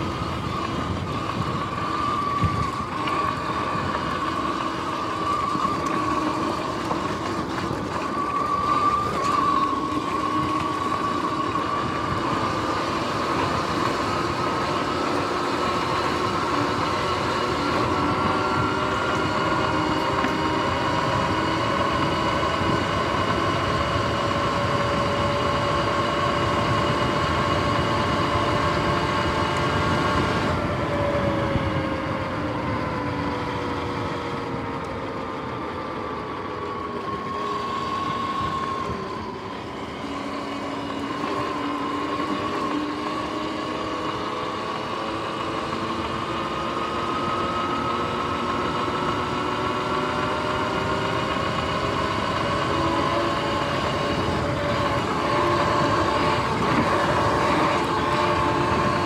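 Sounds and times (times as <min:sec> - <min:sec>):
electric motor whine: 0:00.0 - 0:59.0
tyre and wind noise: 0:00.0 - 0:59.0.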